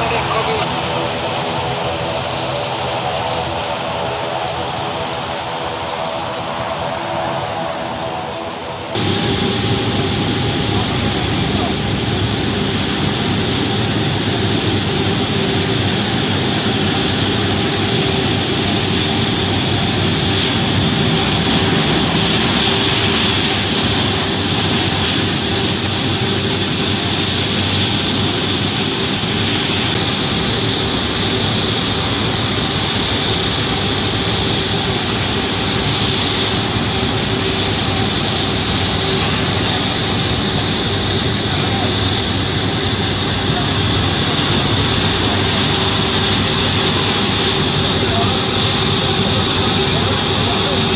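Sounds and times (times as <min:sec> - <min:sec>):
airliner engines rushing: 0:00.0 - 0:50.9
high engine whine: 0:00.0 - 0:50.9.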